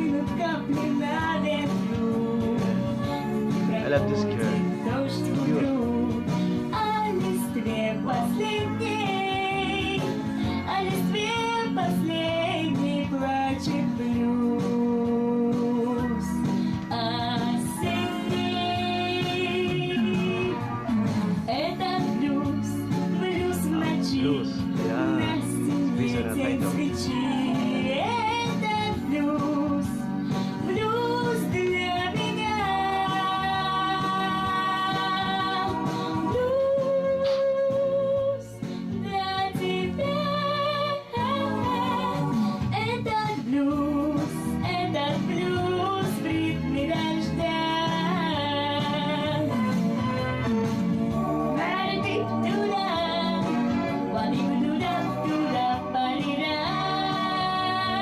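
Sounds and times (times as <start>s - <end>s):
woman singing blues song: 0.0s - 3.8s, 4.5s - 58.0s
instrumental accompaniment: 0.0s - 58.0s.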